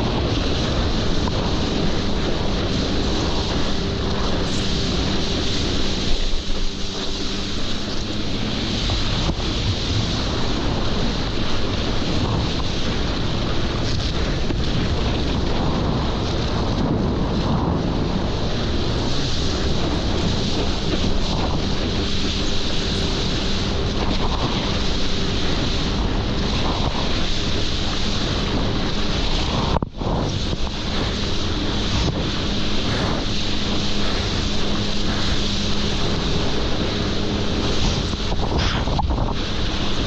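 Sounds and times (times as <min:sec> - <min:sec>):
engine drone: 0:00.0 - 0:40.0
wind noise on microphone: 0:00.0 - 0:40.0.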